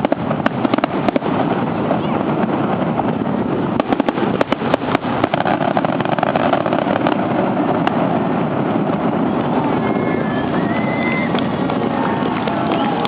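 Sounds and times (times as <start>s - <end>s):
dense rumble: 0.0s - 13.0s
fireworks popping: 0.0s - 13.0s.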